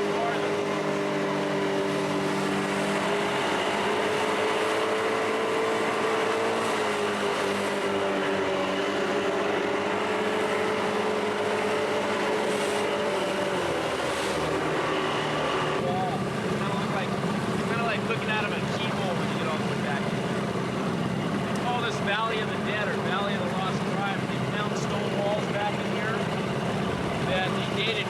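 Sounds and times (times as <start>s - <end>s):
outboard motor humming: 0.0s - 28.0s.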